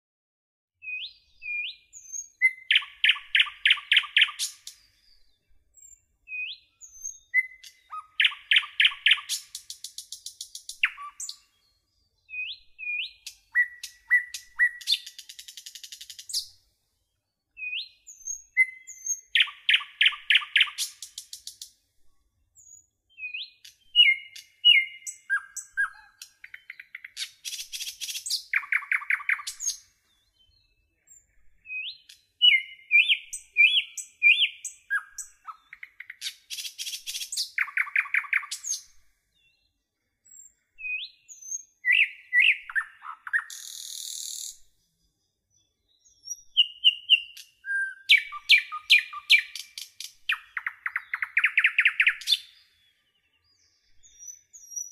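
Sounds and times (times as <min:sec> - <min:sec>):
bird singing whistles and trill: 0:00.8 - 0:16.6, 0:17.5 - 0:21.7, 0:22.6 - 0:44.6, 0:45.5 - 0:54.9.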